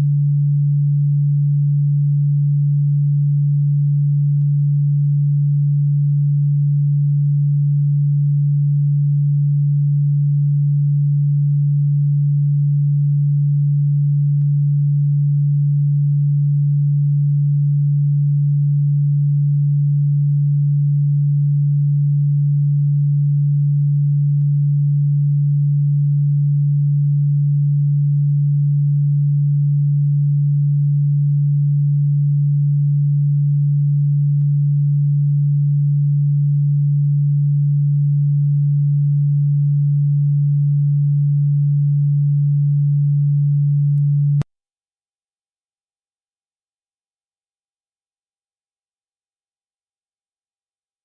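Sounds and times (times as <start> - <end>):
steady low electronic tone: 0.0 - 44.4.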